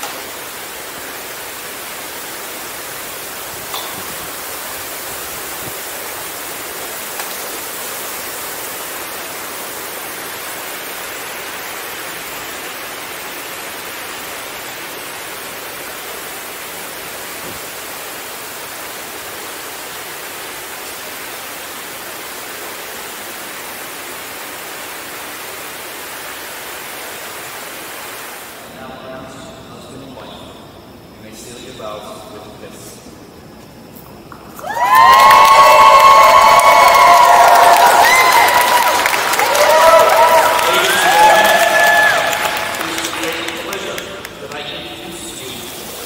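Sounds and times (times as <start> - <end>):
fountain water splashing: 0.0 - 28.6, 34.4 - 46.0.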